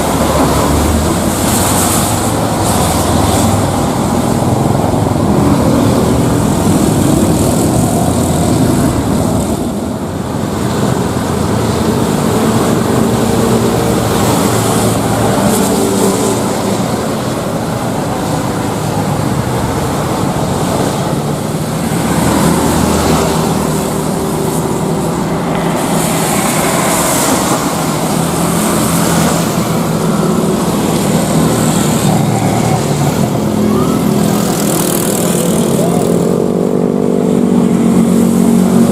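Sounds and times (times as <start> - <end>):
jet engines running loudly: 0.0 - 38.9.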